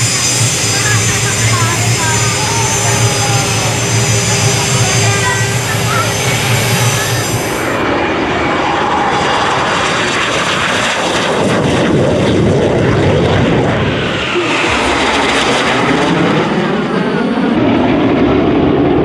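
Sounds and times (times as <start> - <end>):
falling jet whine: 0.0 - 19.0
jet engines roaring overhead: 0.0 - 19.0.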